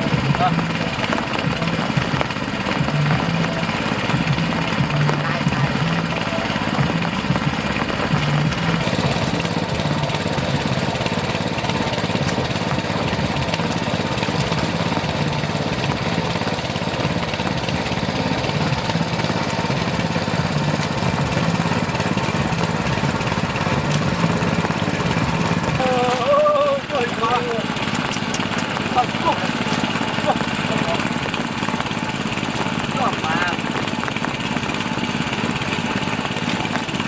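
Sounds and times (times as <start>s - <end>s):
water pump engine running: 0.0s - 37.0s.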